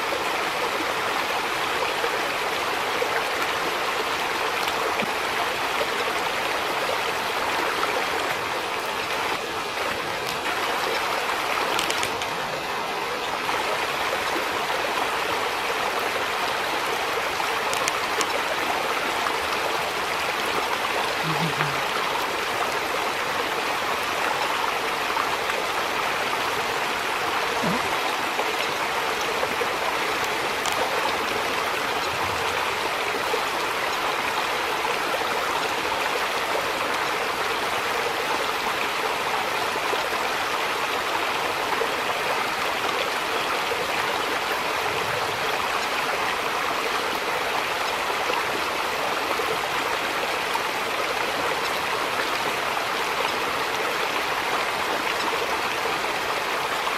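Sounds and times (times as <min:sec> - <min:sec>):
fast-flowing stream rushing: 0:00.0 - 0:56.9.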